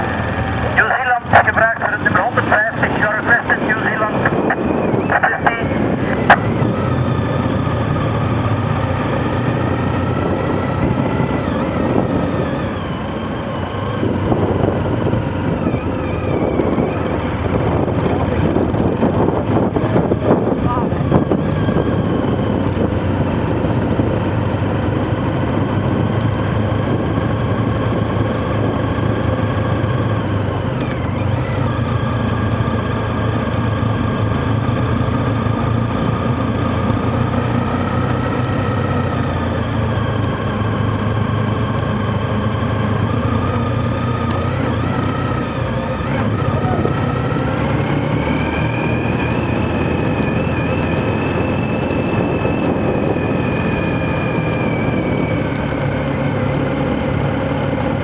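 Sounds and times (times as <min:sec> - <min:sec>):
motorcycle engine running: 0:00.0 - 0:58.0
steady low drone: 0:00.0 - 0:58.0.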